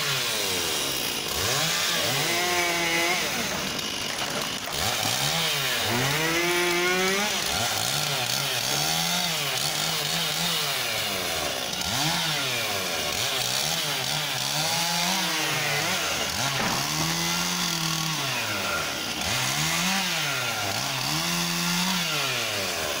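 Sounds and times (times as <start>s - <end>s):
chainsaw revving while cutting: 0.0s - 23.0s.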